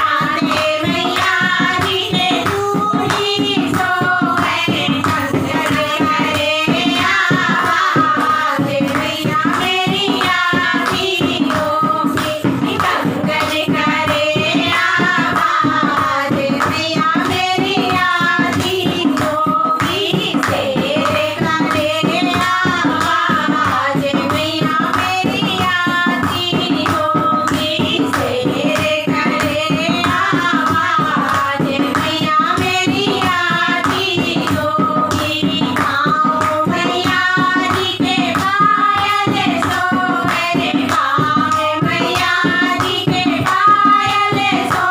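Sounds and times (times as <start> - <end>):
rhythmic hand-clapping: 0.0 - 44.9
women singing a devotional song: 0.0 - 44.9.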